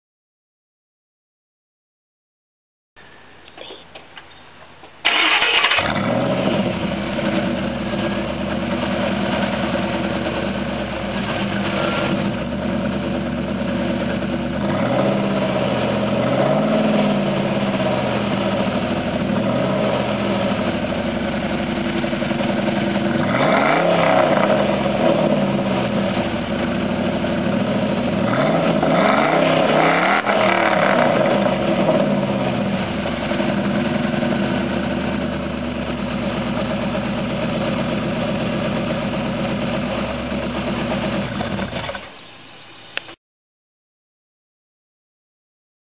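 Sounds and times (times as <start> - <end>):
pickup engine idling and revving: 5.1 - 42.3.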